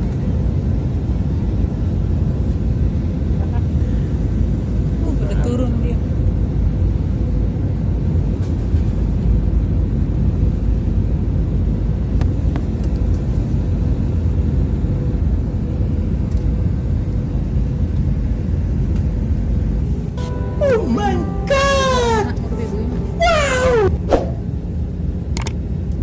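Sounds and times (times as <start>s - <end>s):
engine and airflow rumble: 0.0s - 21.2s, 22.0s - 26.0s.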